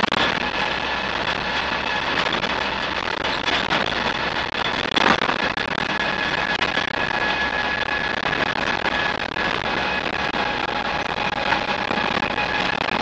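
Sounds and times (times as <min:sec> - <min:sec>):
steady high whine: 0:00.0 - 0:13.0
truck engine and road noise: 0:00.0 - 0:13.0.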